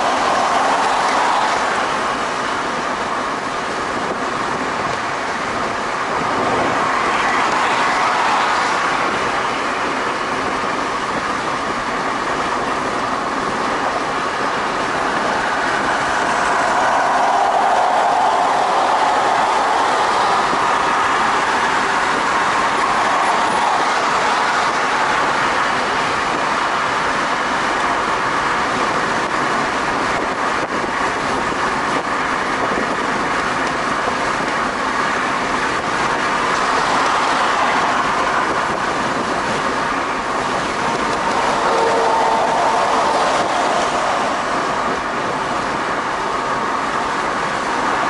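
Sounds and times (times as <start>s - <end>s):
road and tyre noise in car: 0.0s - 48.0s.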